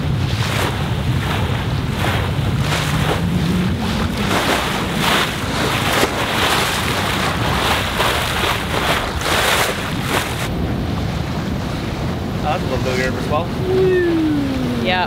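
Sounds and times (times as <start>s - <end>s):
bow wave rushing along hull: 0.0s - 15.0s
wind buffeting microphone: 0.0s - 15.0s.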